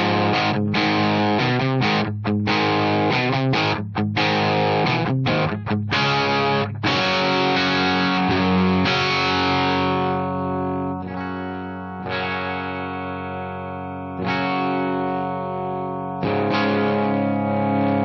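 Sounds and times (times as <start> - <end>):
electric guitar chords ringing: 0.0 - 18.0.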